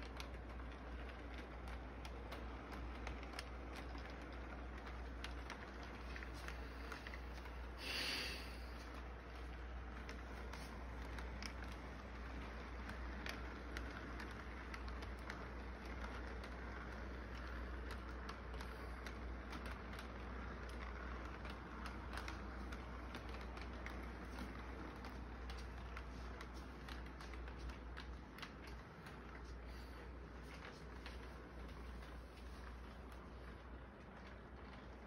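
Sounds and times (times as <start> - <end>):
model train rolling on track: 0.0 - 35.0
wheels clicking on rails: 0.0 - 35.0.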